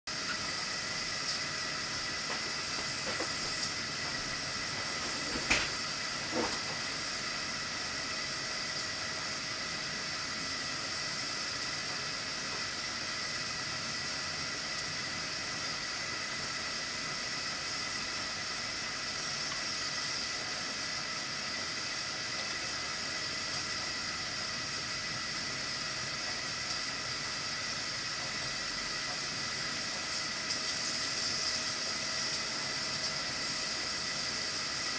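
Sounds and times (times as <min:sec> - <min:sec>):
steam hissing from pressure cooker: 0:00.1 - 0:34.9.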